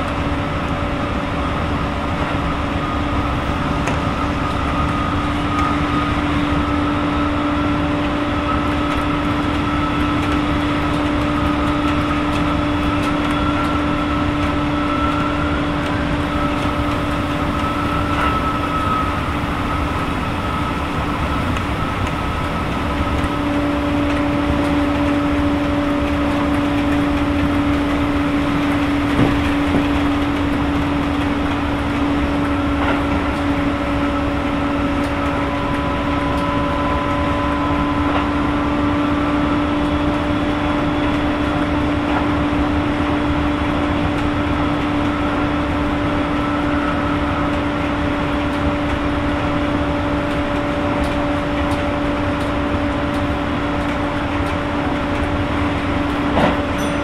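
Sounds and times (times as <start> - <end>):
traction motor whine: 0.0 - 57.0
train rolling rumble: 0.0 - 57.0.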